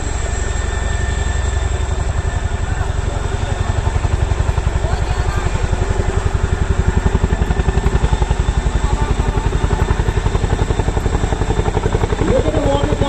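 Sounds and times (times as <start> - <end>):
helicopter engine drone: 0.0 - 13.0
helicopter rotor blades beating: 0.0 - 13.0.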